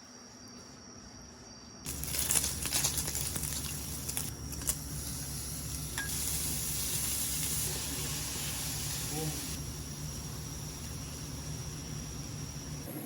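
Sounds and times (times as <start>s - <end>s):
food sizzling in a frying pan: 1.9s - 12.9s.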